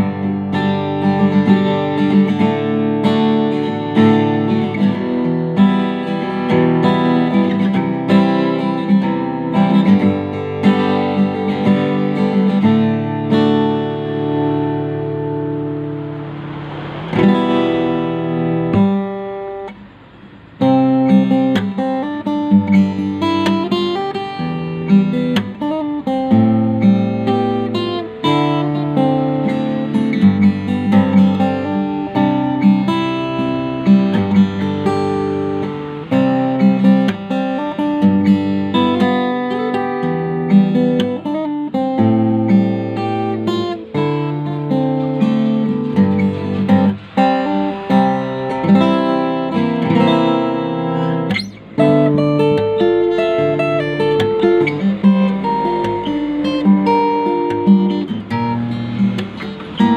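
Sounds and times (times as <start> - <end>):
fingerstyle acoustic guitar: 0.0 - 59.9.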